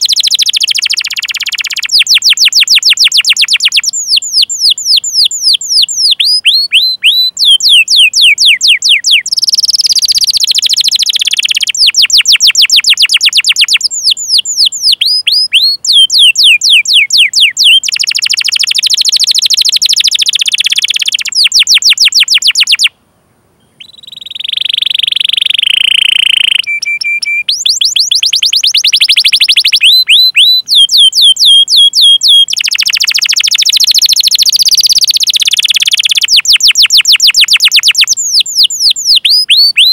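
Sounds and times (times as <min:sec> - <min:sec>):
canary singing: 0:00.0 - 0:23.0, 0:23.6 - 0:39.9.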